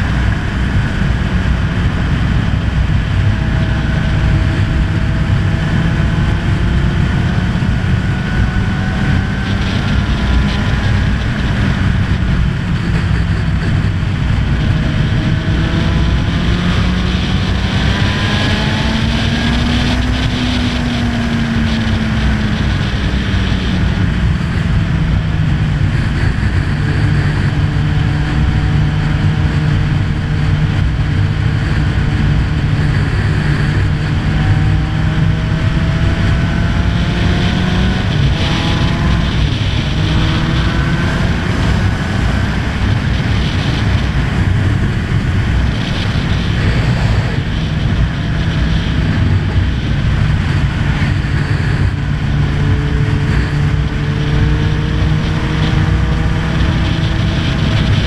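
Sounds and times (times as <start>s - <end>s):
motorcycle engine cruising: 0.0s - 58.0s
wind rush on microphone: 0.0s - 58.0s.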